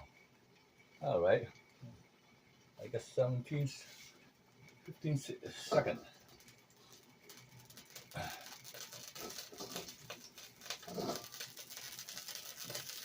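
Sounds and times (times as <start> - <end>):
chicken frying in oil: 0.9 - 13.0.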